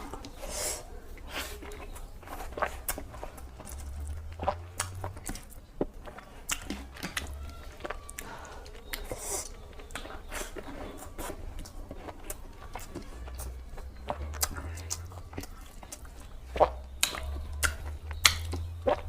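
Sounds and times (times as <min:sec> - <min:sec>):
lip smacks and chewing: 0:00.0 - 0:19.0
person eating close up: 0:00.0 - 0:19.0.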